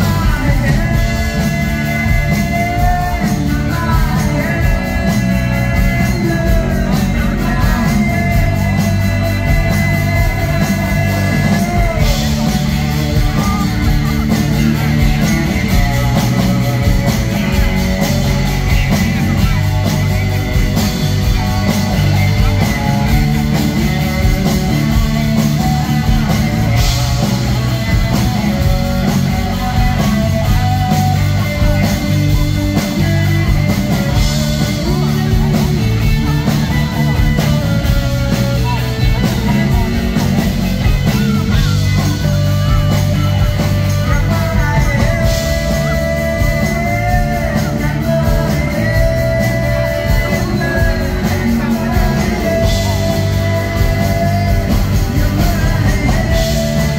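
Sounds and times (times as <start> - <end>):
drums: 0.0 - 56.9
electric guitar: 0.0 - 56.9
live rock band playing: 0.0 - 56.9.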